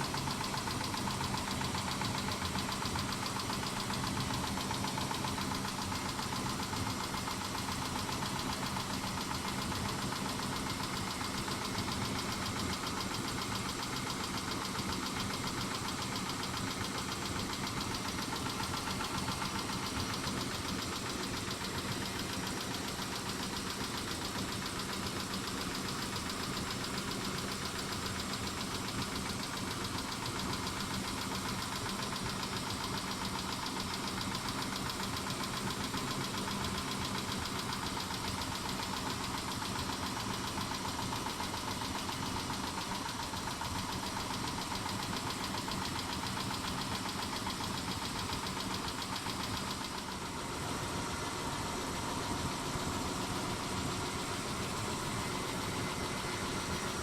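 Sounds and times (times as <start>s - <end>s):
car engine running: 0.0s - 57.0s
rapid engine ticking: 0.0s - 57.0s.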